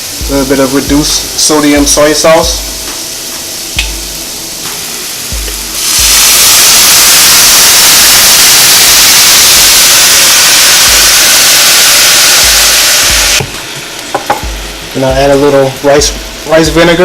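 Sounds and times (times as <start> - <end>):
garlic sizzling in oil: 0.0 - 17.0
sauce hissing in hot pan: 0.0 - 17.0.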